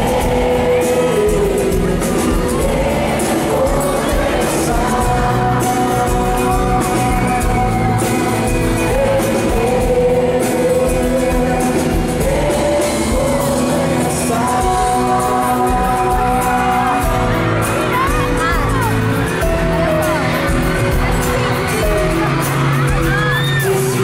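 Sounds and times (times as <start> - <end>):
live pop-rock band: 0.0 - 24.0.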